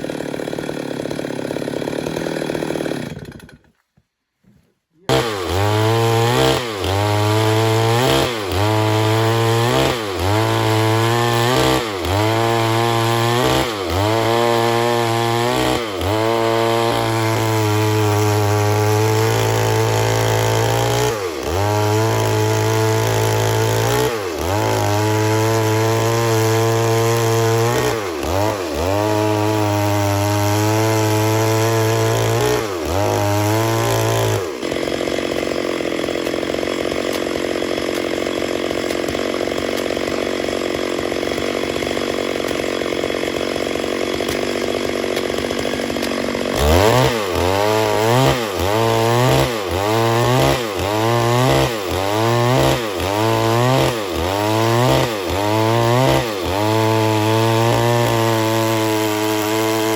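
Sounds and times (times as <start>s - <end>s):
chainsaw revving: 0.0s - 3.7s, 5.0s - 59.9s.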